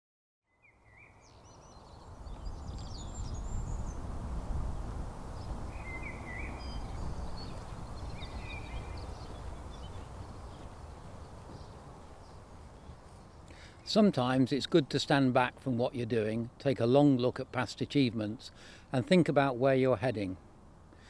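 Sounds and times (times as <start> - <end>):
small birds chirping: 0.5 - 21.0.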